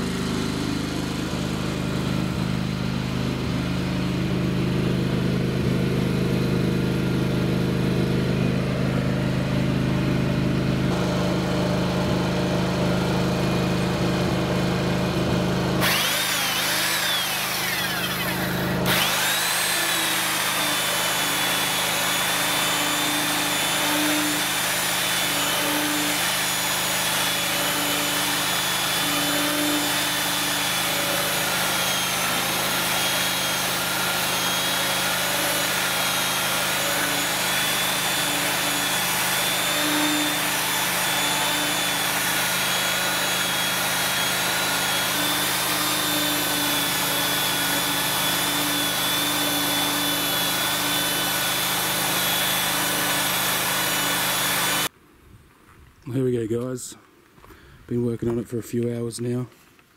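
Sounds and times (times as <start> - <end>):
belt sander on wood: 0.0 - 54.9.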